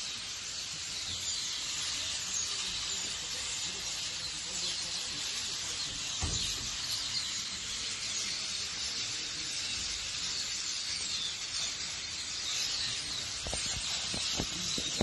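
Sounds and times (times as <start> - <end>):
starlings chattering and screeching: 0.0 - 15.0.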